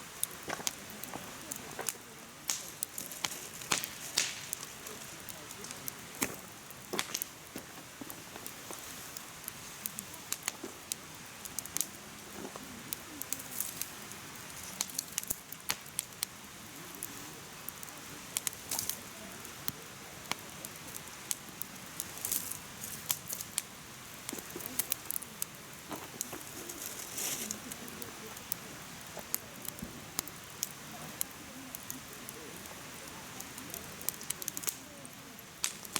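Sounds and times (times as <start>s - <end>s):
firewood crackling and popping: 0.0s - 35.9s
soft rush of flames: 0.0s - 35.9s.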